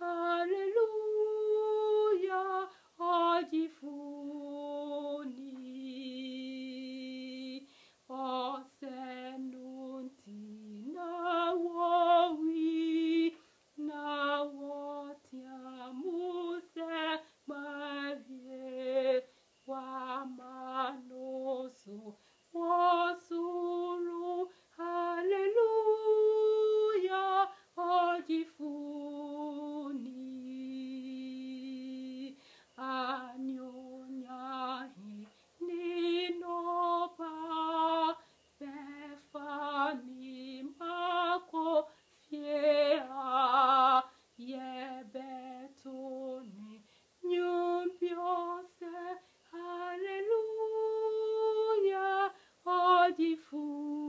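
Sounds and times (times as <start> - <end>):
woman singing a hymn unaccompanied: 0.0 - 54.0.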